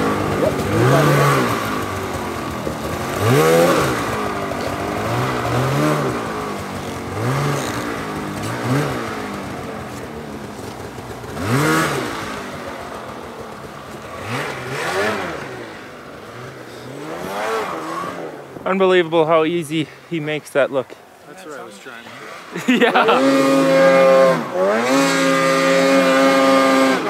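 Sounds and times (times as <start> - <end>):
snowmobile engine revving: 0.0 - 20.0, 21.4 - 27.0.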